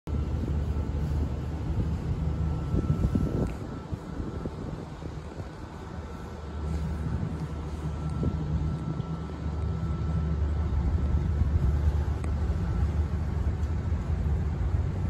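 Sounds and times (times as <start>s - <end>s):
ship engines rumbling: 0.1s - 15.0s.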